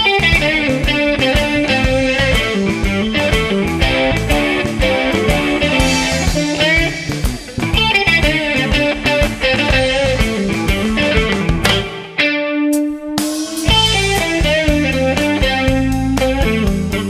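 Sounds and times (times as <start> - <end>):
bass guitar: 0.0 - 17.0
drums: 0.0 - 17.0
lead electric guitar bending notes: 0.0 - 17.0.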